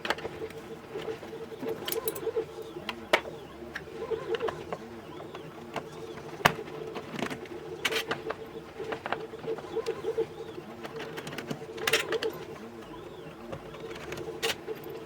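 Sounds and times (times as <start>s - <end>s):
clicks and knocks of tools: 0.0s - 10.0s, 10.8s - 12.5s, 13.4s - 15.0s.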